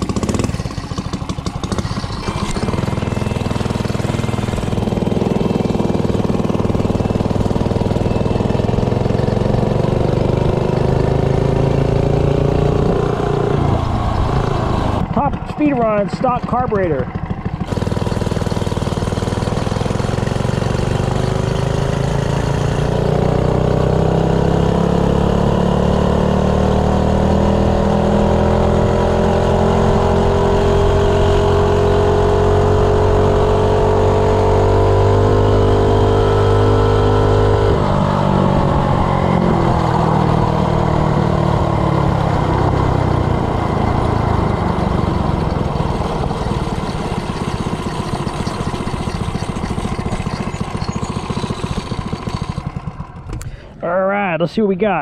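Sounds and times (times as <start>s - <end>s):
minibike engine at full throttle: 0.0s - 54.0s.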